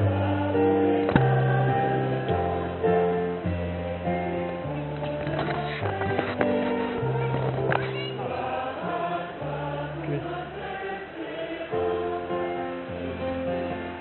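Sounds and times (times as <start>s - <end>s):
group of voices singing: 0.0s - 14.0s.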